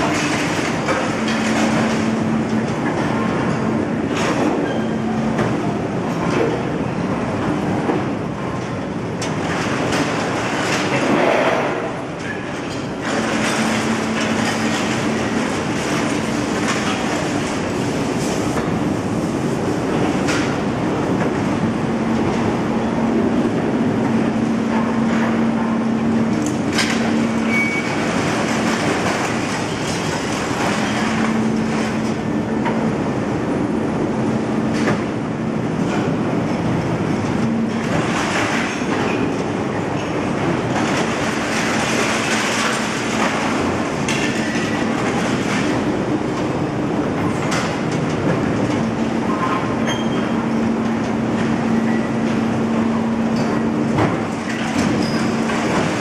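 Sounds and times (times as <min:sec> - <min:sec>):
crane mechanical rumble: 0:00.0 - 0:56.0.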